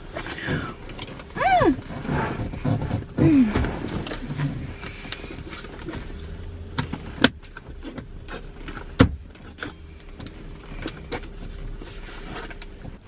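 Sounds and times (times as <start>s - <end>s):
low steady hum: 0.0s - 13.0s
things handled in car cabin: 0.0s - 13.0s.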